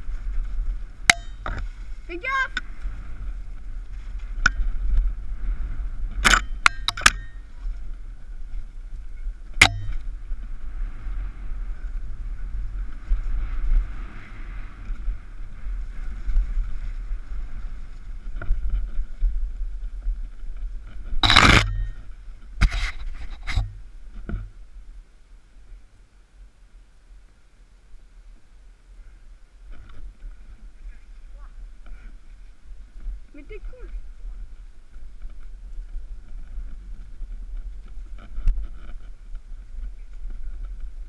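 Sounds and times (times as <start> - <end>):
bike rattling: 0.0 - 24.6, 29.6 - 41.0
wind rumble: 0.0 - 41.0.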